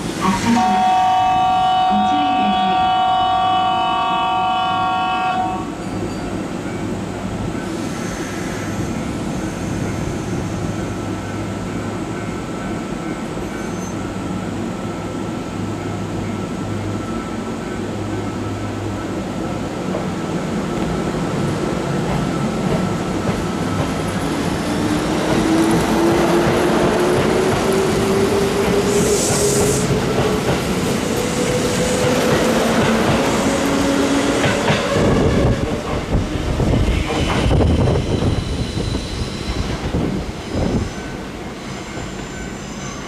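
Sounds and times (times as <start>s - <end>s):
electric train humming: 0.0s - 43.0s
train passing close by: 0.0s - 43.0s.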